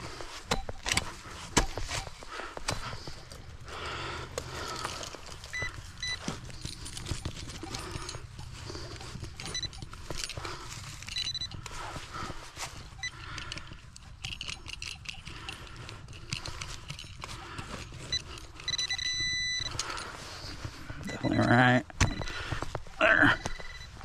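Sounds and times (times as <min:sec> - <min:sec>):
metal detector beeps: 0:00.1 - 0:03.2, 0:05.4 - 0:24.0.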